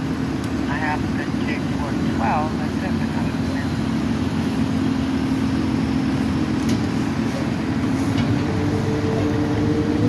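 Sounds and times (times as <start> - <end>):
diesel machinery engine drone: 0.0 - 10.0.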